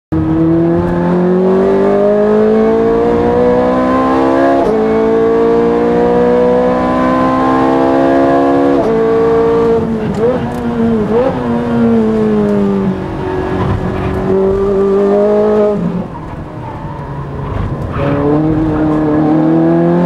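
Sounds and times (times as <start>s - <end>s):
race car engine at full throttle: 0.1s - 20.0s.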